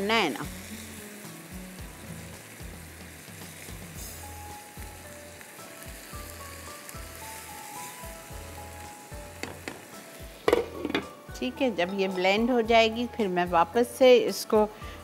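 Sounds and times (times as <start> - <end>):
soft background music with beat: 0.0 - 15.0
tomatoes sizzling in hot oil: 0.0 - 15.0.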